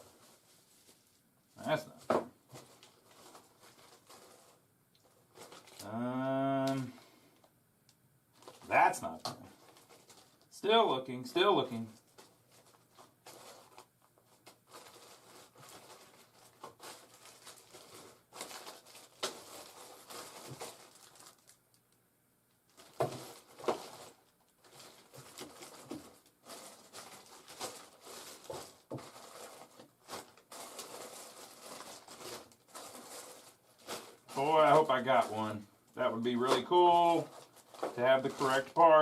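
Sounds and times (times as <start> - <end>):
rustling and crinkling of parts: 0.0 - 5.9, 8.3 - 10.6, 11.4 - 21.9, 22.5 - 39.0.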